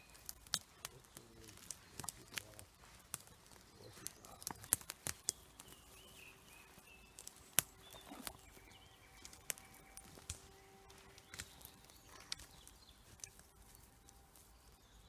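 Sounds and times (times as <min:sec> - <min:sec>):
footsteps snapping twigs: 0:00.0 - 0:14.8.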